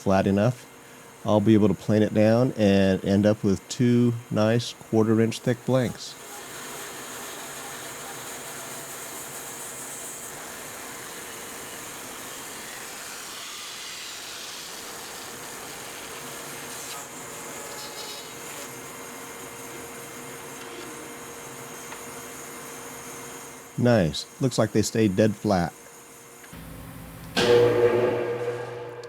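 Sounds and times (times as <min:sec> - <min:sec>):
power saw cutting wood: 0:01.3 - 0:27.8.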